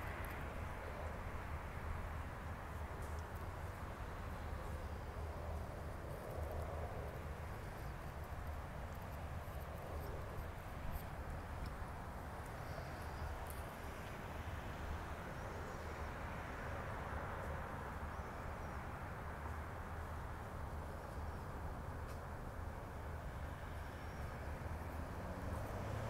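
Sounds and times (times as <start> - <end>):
distant road traffic hum: 0.0 - 26.0.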